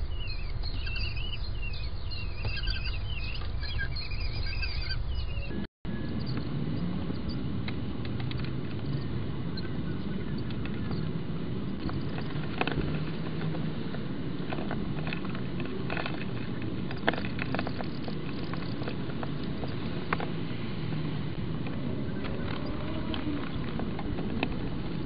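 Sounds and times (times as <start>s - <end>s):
background hum and hiss: 0.0s - 25.0s
chicks tapping and scraping: 0.0s - 25.0s.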